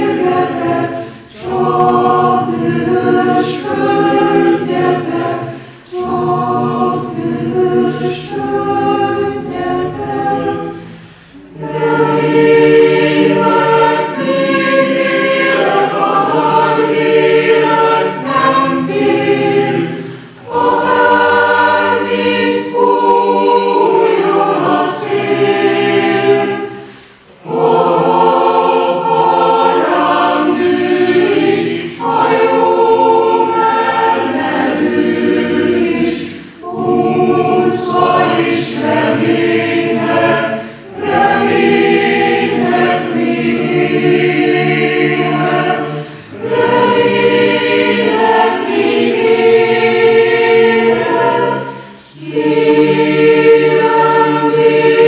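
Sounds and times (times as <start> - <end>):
chamber choir singing: 0.0 - 55.0.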